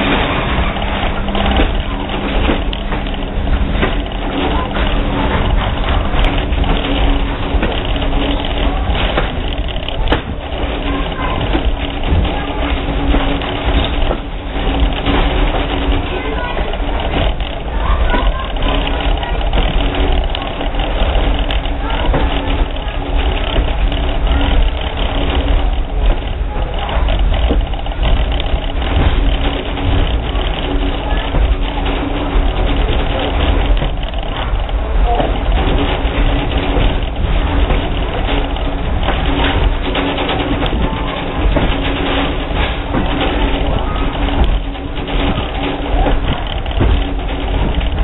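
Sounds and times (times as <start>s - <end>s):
faint hum: 0.0s - 48.0s
train wheels rumbling on rails: 0.0s - 48.0s.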